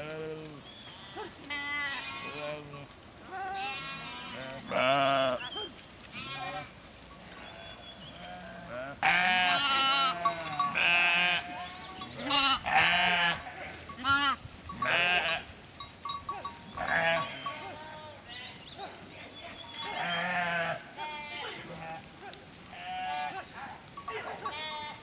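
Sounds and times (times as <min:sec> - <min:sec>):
sheep bleating: 0:00.0 - 0:15.5, 0:16.2 - 0:18.4, 0:19.8 - 0:25.0.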